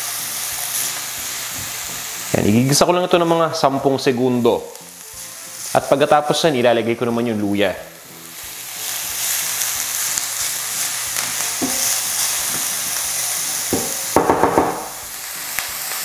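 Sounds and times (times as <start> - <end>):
onion sizzling in oil: 0.0 - 16.0.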